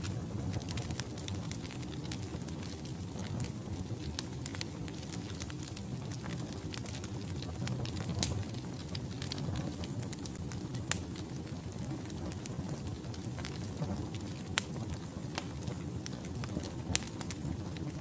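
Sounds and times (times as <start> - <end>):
flames rumbling in fireplace: 0.0 - 18.0
wood crackles and pops: 0.0 - 18.0.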